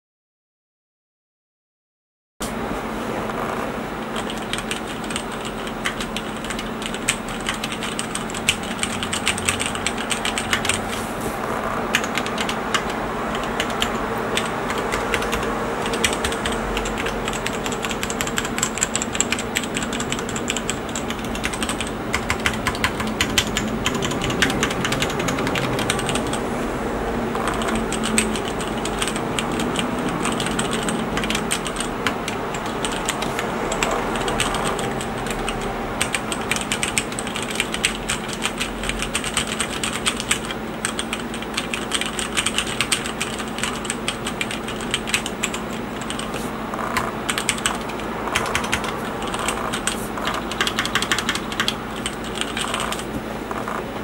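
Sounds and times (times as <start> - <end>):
mechanical keyboard typing: 4.2 - 26.4, 27.3 - 54.0.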